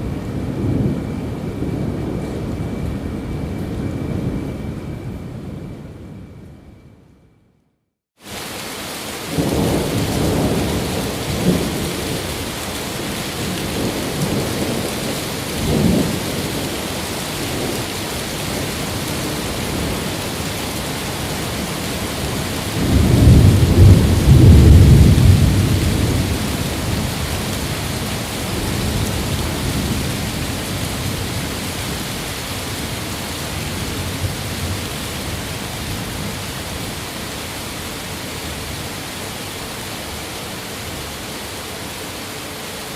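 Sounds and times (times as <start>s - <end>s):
rolling thunder: 0.0s - 7.0s, 9.2s - 37.0s
rain falling on windows: 8.2s - 42.9s.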